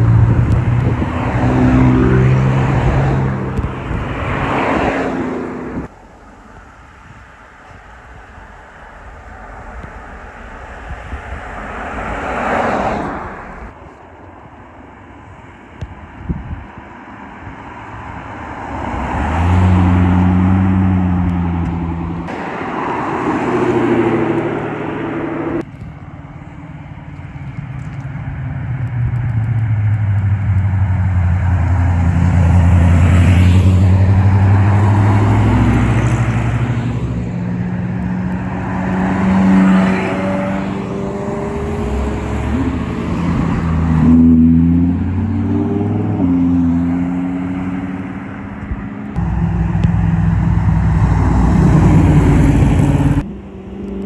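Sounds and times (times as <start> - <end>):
cars driving past slowly: 0.0 - 54.0.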